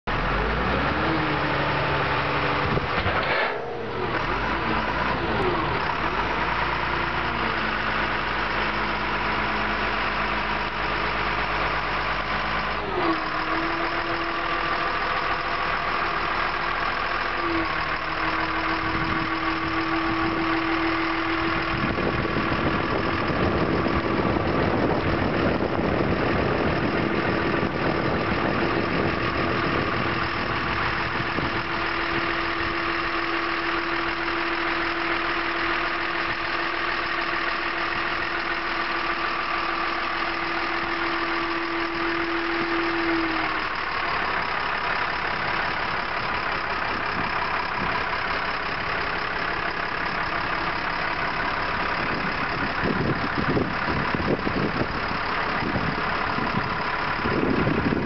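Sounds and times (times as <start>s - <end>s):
wheel loader diesel engine running: 0.0s - 58.0s.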